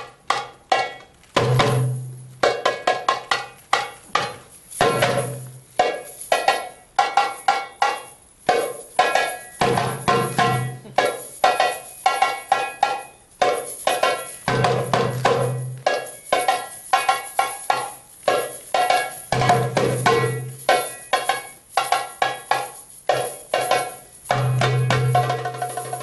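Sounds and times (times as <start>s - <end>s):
tambourine strokes and jingles: 0.0s - 26.0s.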